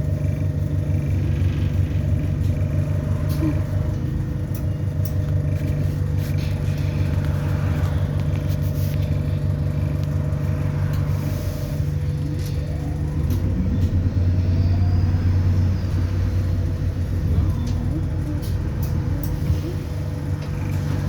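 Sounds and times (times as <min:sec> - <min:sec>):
bus engine hum and drone: 0:00.0 - 0:21.0.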